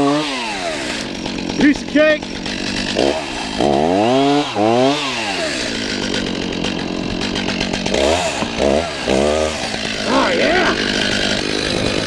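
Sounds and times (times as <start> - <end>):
chainsaw cutting ice: 0.0 - 12.0.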